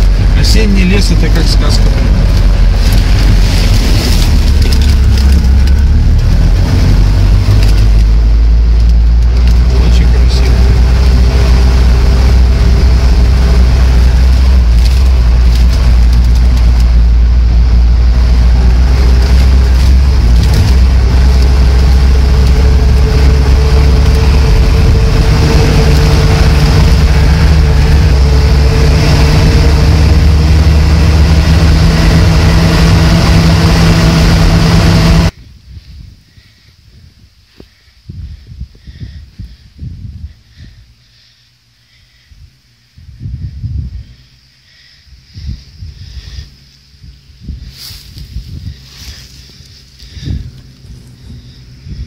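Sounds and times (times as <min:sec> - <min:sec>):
car engine running under load: 0:00.0 - 0:35.4, 0:39.4 - 0:52.0.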